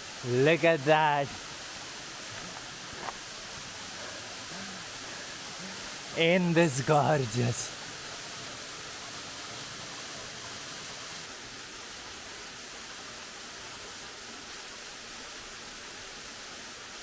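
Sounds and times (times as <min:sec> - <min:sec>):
water rushing: 0:00.0 - 0:16.8.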